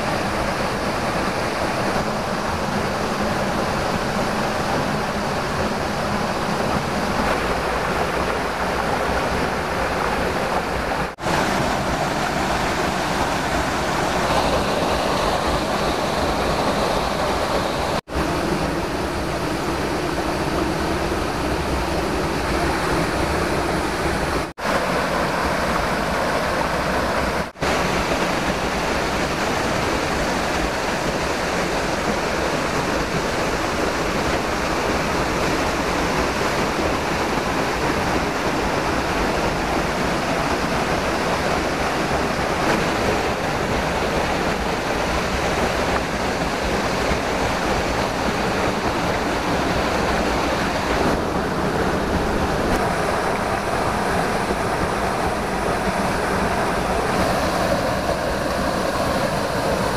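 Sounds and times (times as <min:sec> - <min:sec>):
waterfall pouring over rocks: 0:00.0 - 0:59.9.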